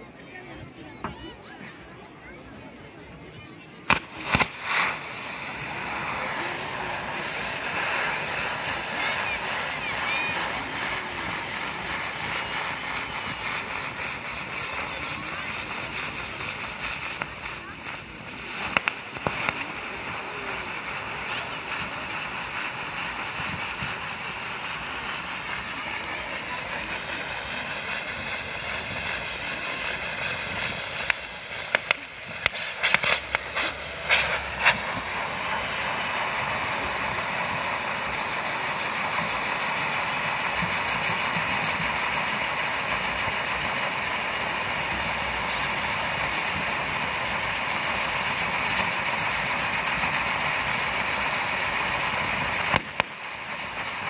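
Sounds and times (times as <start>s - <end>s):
firework sparks hissing: 3.6s - 54.0s.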